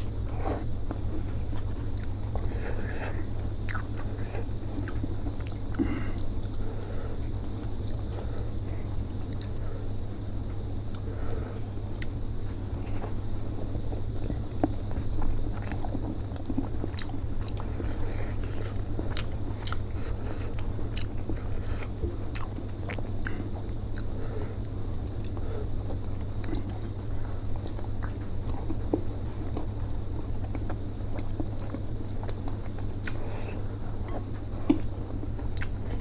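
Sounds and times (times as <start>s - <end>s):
chewing and biting food: 0.0s - 10.0s, 10.7s - 36.0s
steady low hum: 0.0s - 36.0s.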